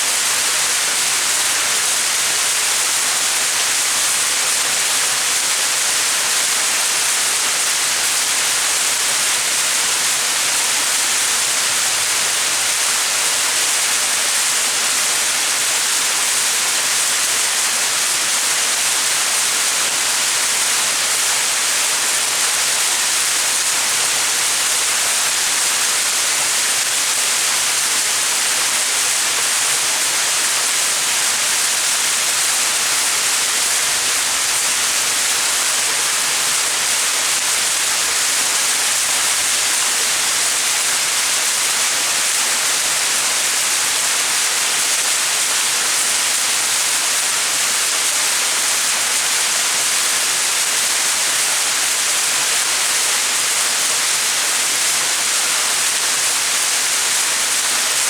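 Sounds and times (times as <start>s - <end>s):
waterfall splashing: 0.1s - 58.0s.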